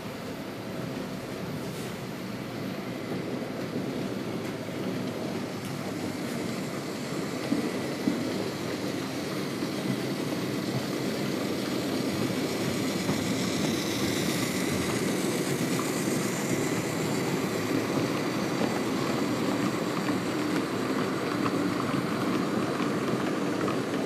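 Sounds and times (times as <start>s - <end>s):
model train rumbling on track: 0.0s - 24.0s.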